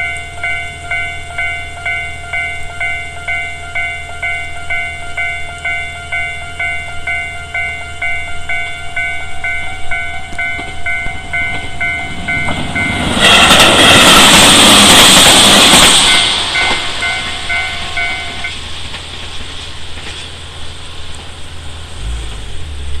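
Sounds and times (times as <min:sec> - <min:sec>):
level-crossing warning bell ringing: 0:00.0 - 0:20.4
electric train passing: 0:00.0 - 0:23.0.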